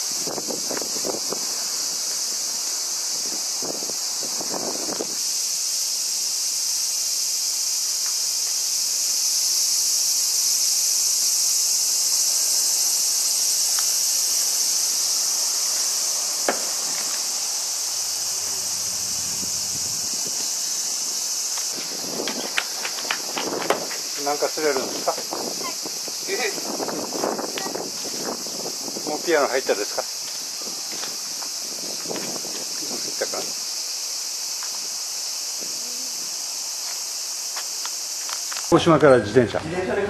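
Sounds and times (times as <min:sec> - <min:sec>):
cicadas buzzing: 0:00.0 - 0:40.0.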